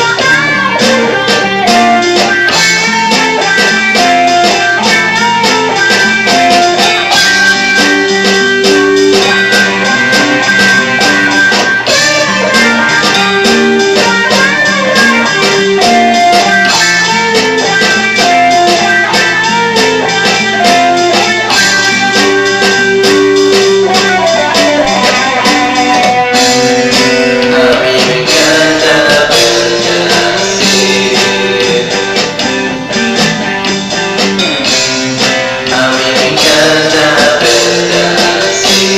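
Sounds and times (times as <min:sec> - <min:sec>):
rock band instrumental: 0:00.0 - 0:38.9.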